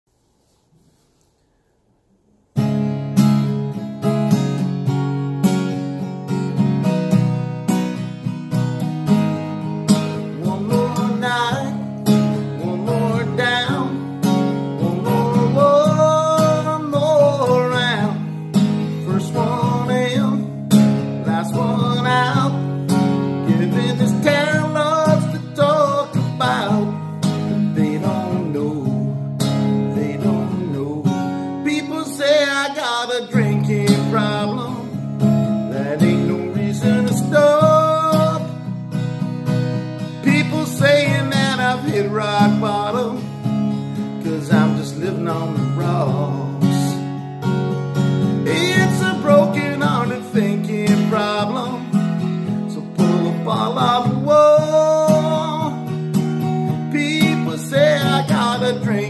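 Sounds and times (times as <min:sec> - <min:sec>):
acoustic guitar strumming chords: 0:02.5 - 0:59.0
gliding lead guitar melody: 0:02.6 - 0:32.7, 0:33.4 - 0:59.0.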